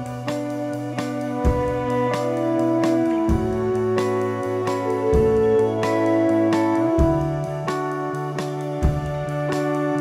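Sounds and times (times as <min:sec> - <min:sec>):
instrumental band music: 0:00.0 - 0:10.0.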